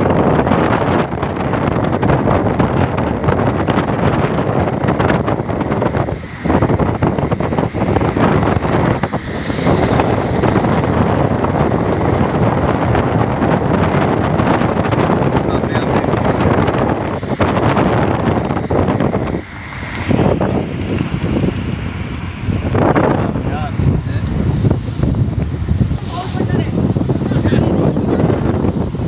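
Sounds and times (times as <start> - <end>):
road and traffic noise: 0.0 - 29.0
wind on phone microphone: 0.0 - 29.0.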